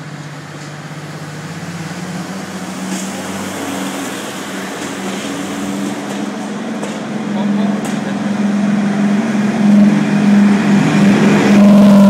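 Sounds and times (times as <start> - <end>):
diesel locomotive engines: 0.0 - 12.0.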